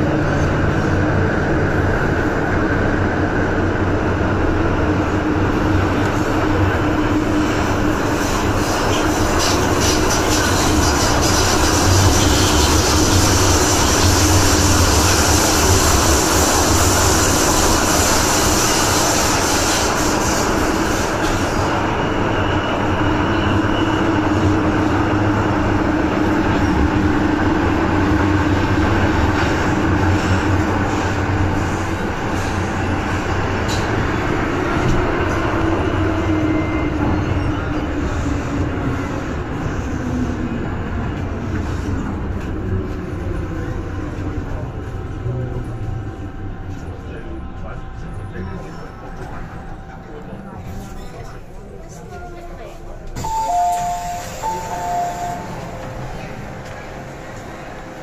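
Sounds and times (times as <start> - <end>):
train running through tunnel: 0.0 - 58.0.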